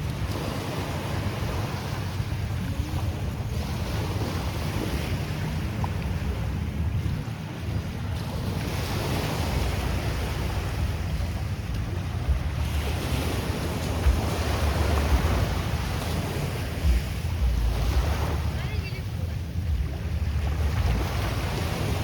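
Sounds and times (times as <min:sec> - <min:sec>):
small waves washing onto beach: 0:00.0 - 0:22.0
wind buffeting microphone: 0:00.0 - 0:22.0.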